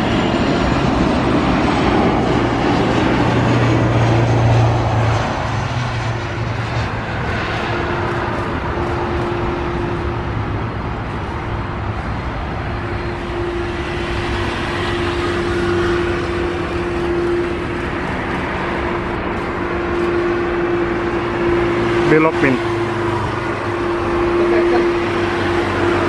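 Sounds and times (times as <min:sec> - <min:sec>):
jet engines at take-off power: 0:00.0 - 0:26.0.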